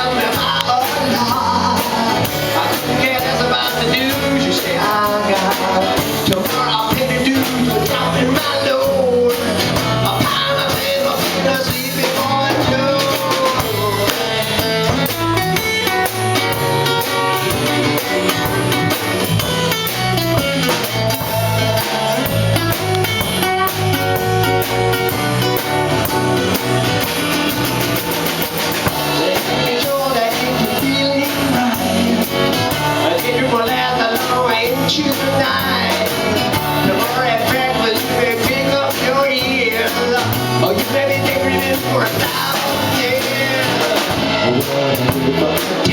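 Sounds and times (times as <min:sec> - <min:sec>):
bass: 0:00.0 - 0:45.9
drum kit: 0:00.0 - 0:45.9
guitar melody: 0:00.0 - 0:45.9.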